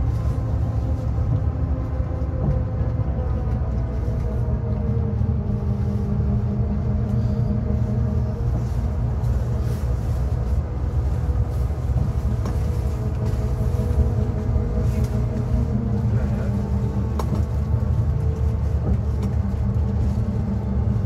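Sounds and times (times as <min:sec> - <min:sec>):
bus engine and tyres rumbling: 0:00.0 - 0:21.0.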